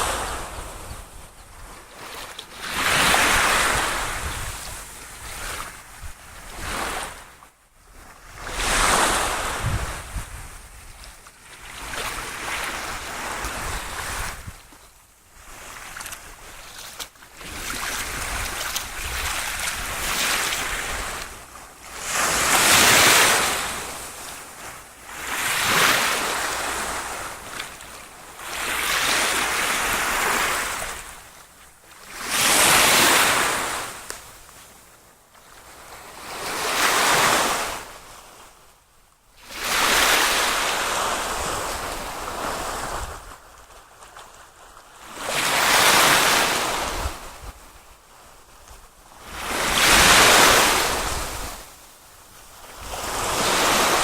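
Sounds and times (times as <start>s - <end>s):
waves washing in: 0.0s - 14.6s, 15.4s - 31.2s, 32.0s - 34.2s, 39.4s - 47.5s, 49.2s - 51.8s, 52.4s - 54.0s.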